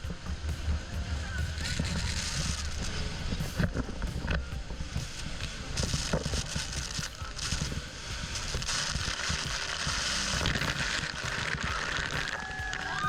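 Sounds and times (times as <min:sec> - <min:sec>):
boat low rumble: 0:00.0 - 0:13.0
rushing water: 0:00.0 - 0:13.0
wind buffeting microphone: 0:00.0 - 0:13.0.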